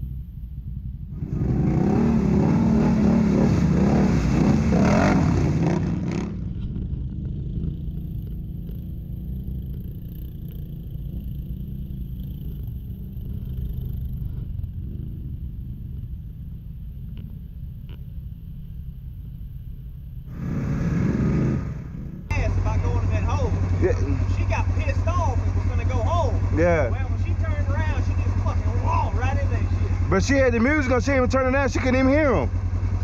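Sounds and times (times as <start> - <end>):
atv engine revving: 0.8 - 33.0.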